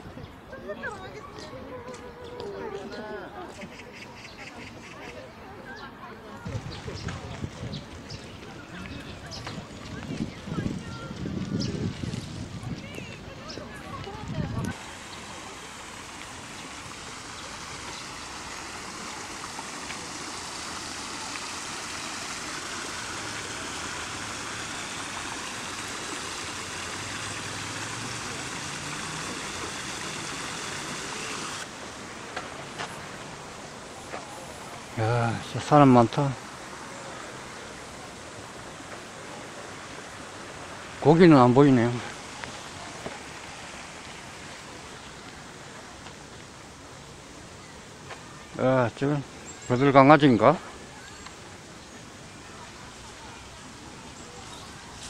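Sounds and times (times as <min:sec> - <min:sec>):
stream rushing over rocks: 0:06.3 - 0:55.0
outdoor hiss: 0:10.5 - 0:55.0.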